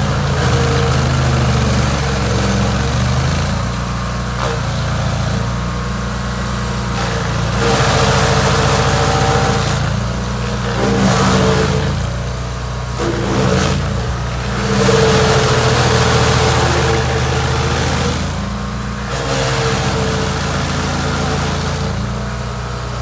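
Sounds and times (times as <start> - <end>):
chainsaw revving while cutting: 0.0 - 3.8, 6.8 - 12.3, 12.9 - 22.2.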